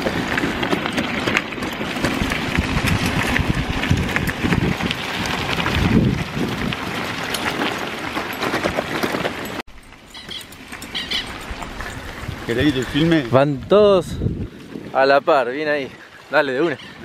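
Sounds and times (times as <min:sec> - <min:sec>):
bicycle tyres crunching gravel: 0:00.0 - 0:17.0
wind rumbling on microphone: 0:00.0 - 0:17.0.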